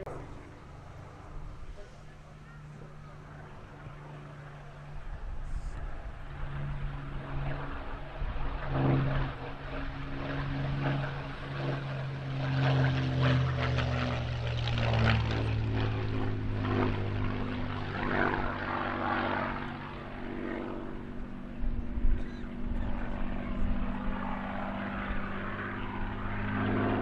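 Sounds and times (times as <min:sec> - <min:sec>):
propeller aircraft engine passing: 0:00.0 - 0:27.0.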